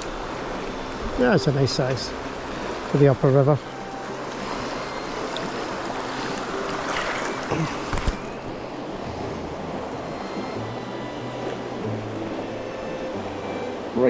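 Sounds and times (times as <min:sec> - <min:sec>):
river water rushing over stones: 0:00.0 - 0:14.0.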